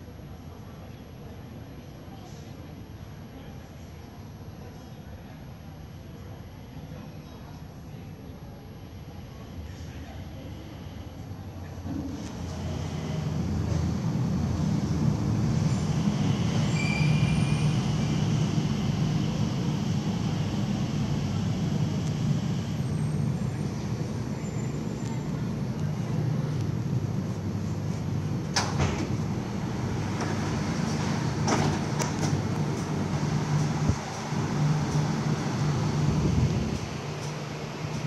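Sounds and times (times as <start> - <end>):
train low rumble and hum: 0.0 - 38.0.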